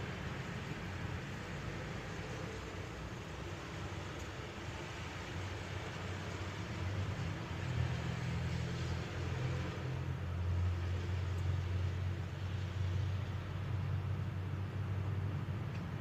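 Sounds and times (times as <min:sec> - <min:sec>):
rain hiss: 0:00.0 - 0:16.0
traffic rumble: 0:00.0 - 0:16.0.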